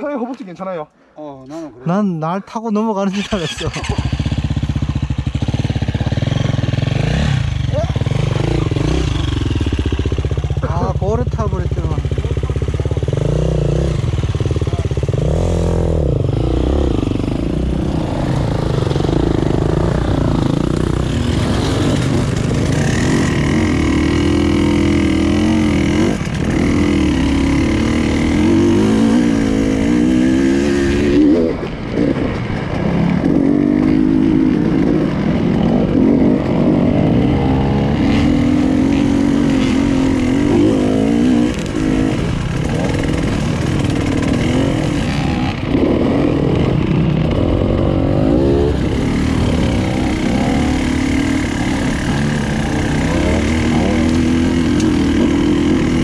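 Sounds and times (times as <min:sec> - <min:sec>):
motorcycle engine revving: 0:03.1 - 0:56.0.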